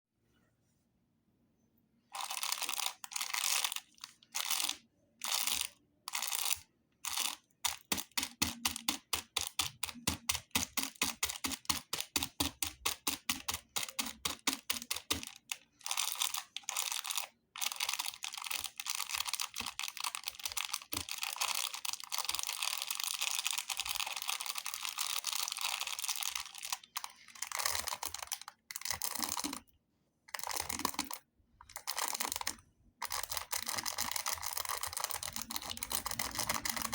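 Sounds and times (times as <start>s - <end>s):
plastic candy wrappers crinkling: 2.2s - 29.6s, 30.3s - 36.9s.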